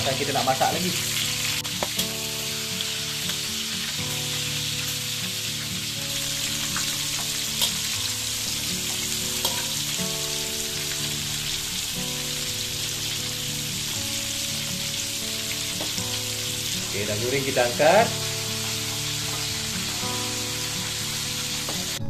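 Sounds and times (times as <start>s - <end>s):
prawns sizzling in oil: 0.0s - 22.0s.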